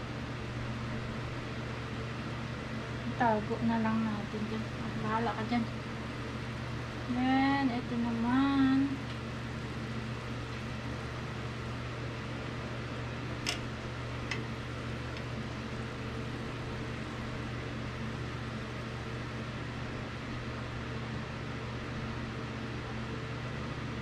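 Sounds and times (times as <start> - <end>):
range-hood fan humming: 0.0 - 24.0.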